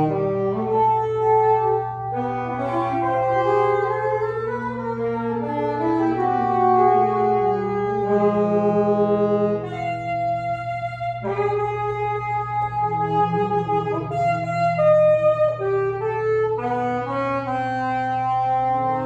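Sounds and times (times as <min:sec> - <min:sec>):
saxophones and clarinet free jazz: 0:00.0 - 0:19.0.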